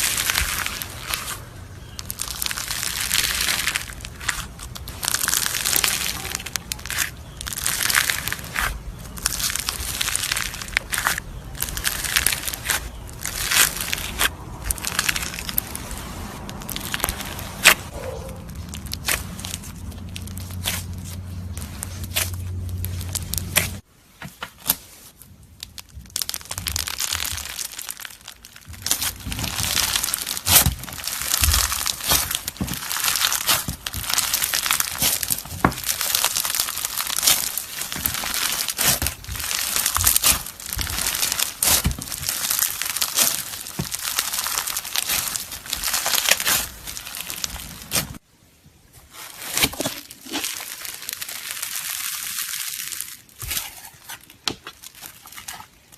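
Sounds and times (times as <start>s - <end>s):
slime crackling and popping: 0.0s - 23.9s, 24.5s - 48.2s, 49.2s - 55.9s.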